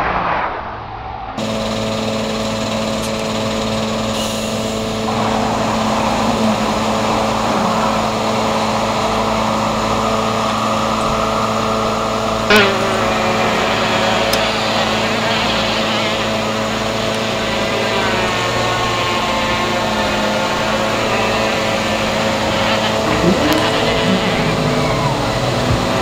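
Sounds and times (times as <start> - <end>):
engine running: 1.4 - 26.0.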